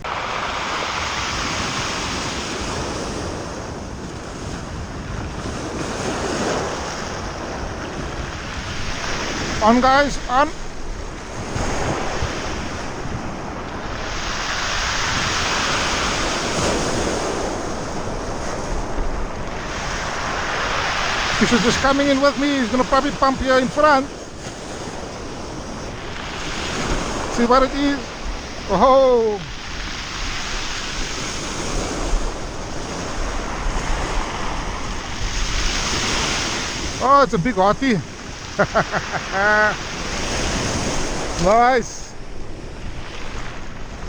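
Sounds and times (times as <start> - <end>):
ocean surf washing ashore: 0.0 - 44.0
wind buffeting microphone: 0.0 - 44.0.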